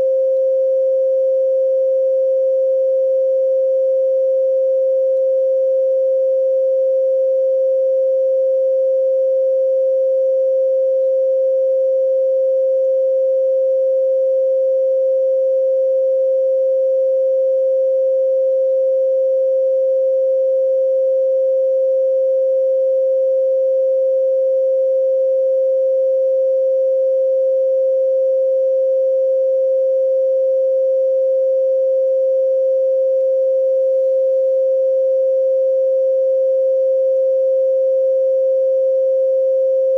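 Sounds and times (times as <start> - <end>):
steady sine tone: 0.0 - 39.9.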